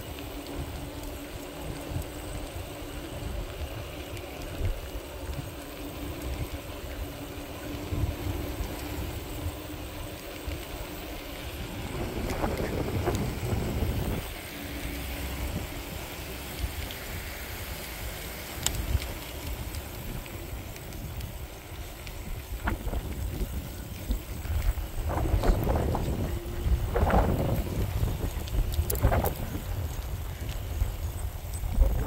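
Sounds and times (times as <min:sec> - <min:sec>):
low rumble of bike ride: 0:00.0 - 0:32.0
wind buffeting the microphone: 0:00.0 - 0:32.0.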